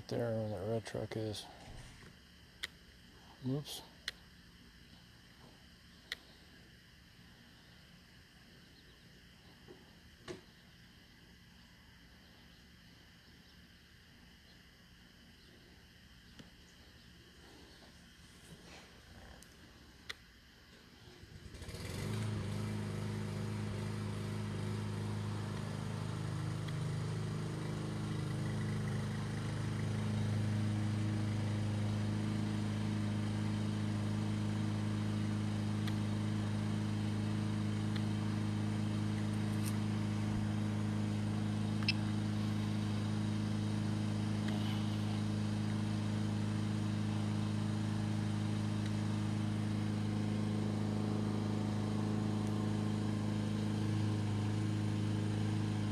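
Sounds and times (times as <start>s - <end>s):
steady motor hum: 0.0s - 55.9s.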